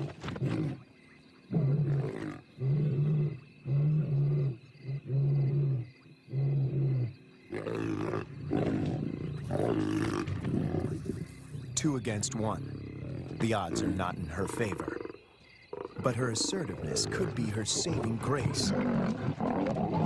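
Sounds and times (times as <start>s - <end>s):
lions snarling: 0.0s - 0.8s, 1.5s - 20.0s
lion roaring: 1.5s - 15.2s, 15.8s - 20.0s.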